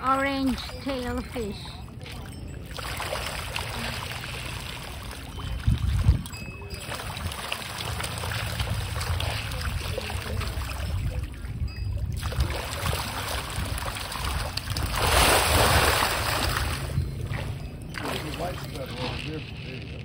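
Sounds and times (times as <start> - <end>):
fish splashing in water: 1.8 - 19.3.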